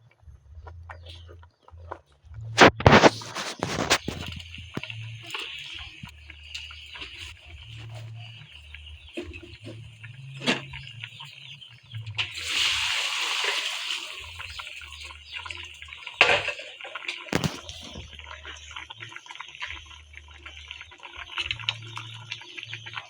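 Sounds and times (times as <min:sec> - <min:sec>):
water pouring: 0:02.6 - 0:23.0.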